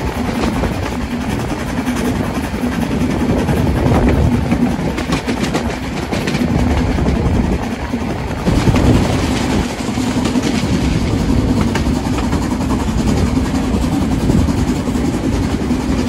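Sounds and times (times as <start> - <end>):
rail clicks: 0.0 - 16.0
train rumbling on rails: 0.0 - 16.0.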